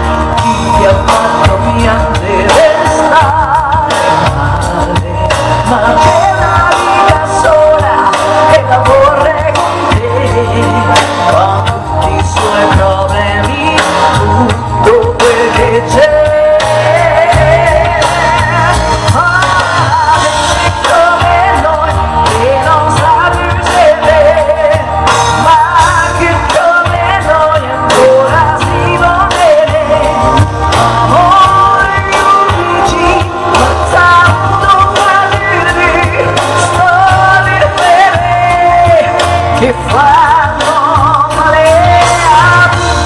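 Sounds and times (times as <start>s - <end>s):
pop-rock backing with drums: 0.0s - 43.0s
woman singing into a microphone: 0.0s - 43.0s.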